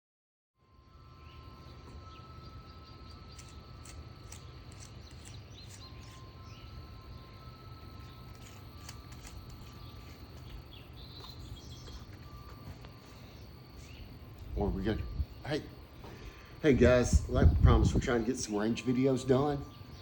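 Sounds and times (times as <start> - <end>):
insects trilling: 0.6 - 20.0
small birds chirping: 1.1 - 20.0.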